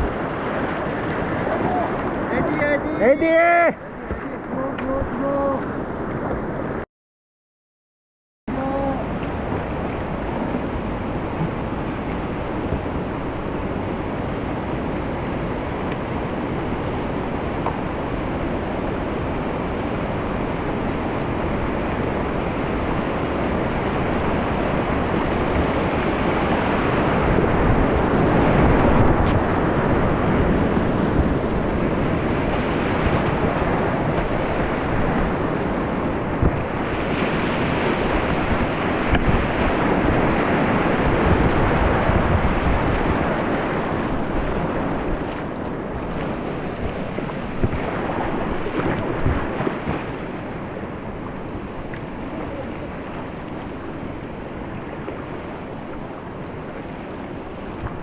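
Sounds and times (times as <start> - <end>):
mountain stream rushing: 0.0 - 6.8, 8.5 - 58.0.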